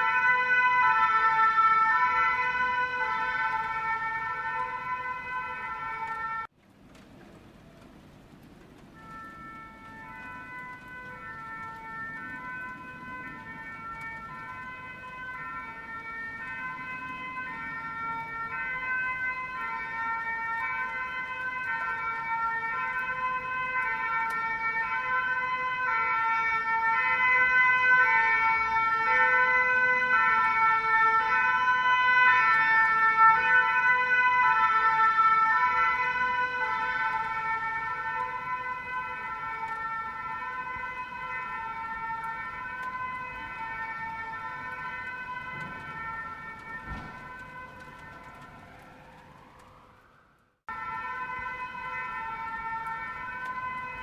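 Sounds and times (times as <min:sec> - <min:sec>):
two-tone emergency siren: 0:00.0 - 0:06.6, 0:07.8 - 0:54.0.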